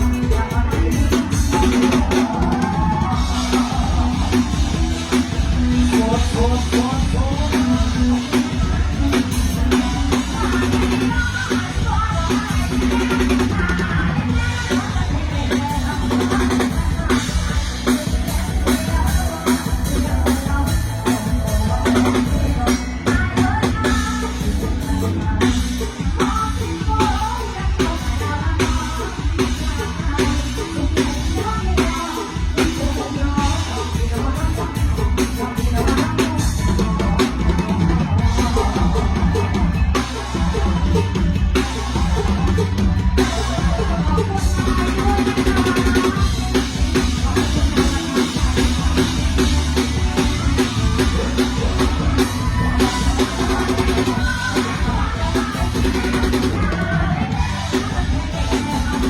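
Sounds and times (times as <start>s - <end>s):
bass guitar: 0.0s - 59.0s
drum kit beat: 0.0s - 59.0s
live band music over loudspeakers: 0.0s - 59.0s
person singing: 0.0s - 59.0s.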